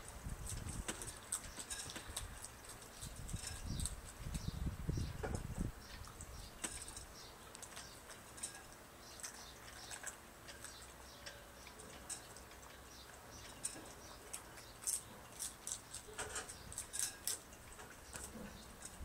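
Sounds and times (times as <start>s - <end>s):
crab shell crunching: 0.0s - 4.5s, 5.9s - 19.0s.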